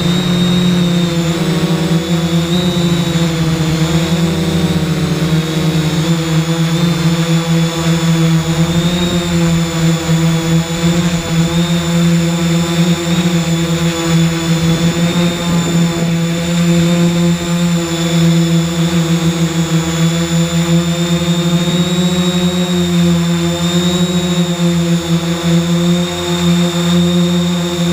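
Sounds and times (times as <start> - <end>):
drone propellers buzzing: 0.0 - 27.9.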